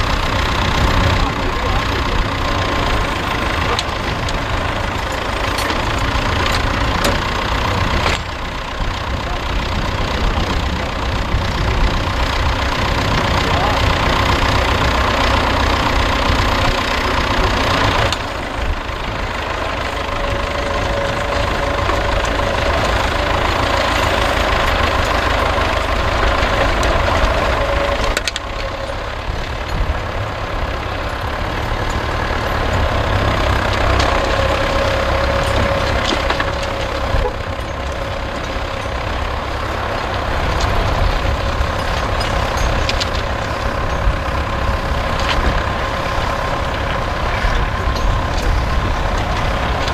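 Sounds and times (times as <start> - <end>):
tractor engine under load: 0.0 - 49.9.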